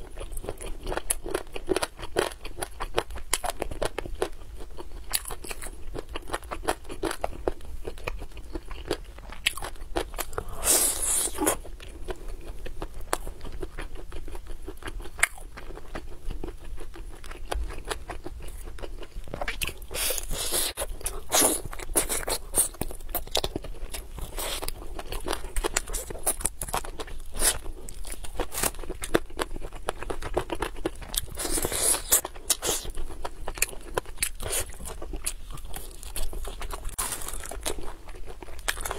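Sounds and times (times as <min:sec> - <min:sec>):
biting and chewing meat: 0:00.0 - 0:38.9.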